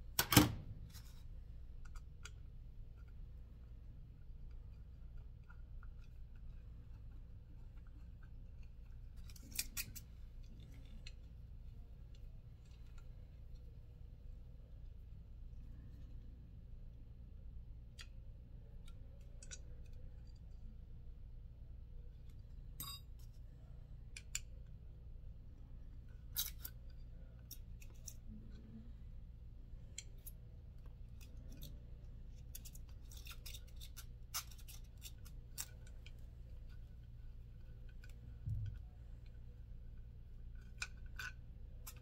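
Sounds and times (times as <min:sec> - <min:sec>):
steady low hum: 0:00.0 - 0:42.0
small parts clicking and scraping: 0:00.8 - 0:17.2, 0:17.8 - 0:20.9, 0:21.8 - 0:42.0.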